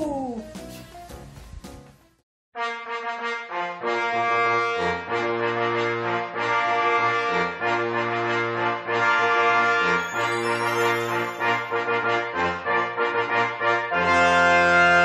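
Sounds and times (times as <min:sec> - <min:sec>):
brass intro music: 0:00.6 - 0:15.0.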